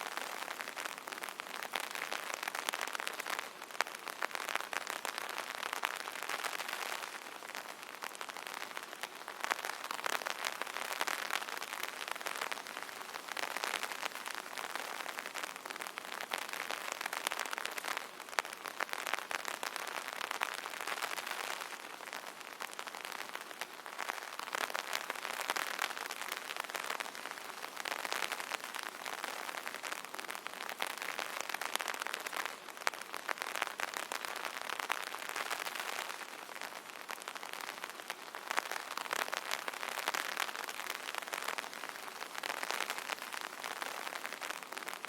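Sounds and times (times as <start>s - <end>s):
rain pattering on an umbrella: 0.0s - 45.0s.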